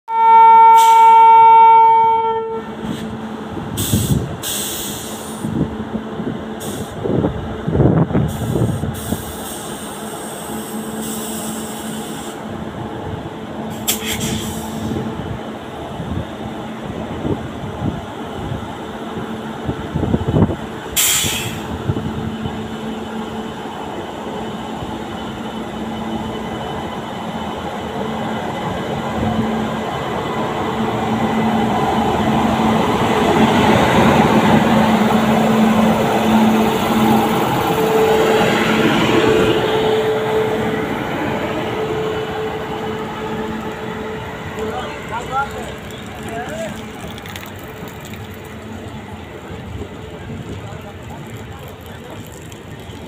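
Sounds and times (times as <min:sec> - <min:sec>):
train wheels rumbling on rails: 0:02.7 - 0:53.0.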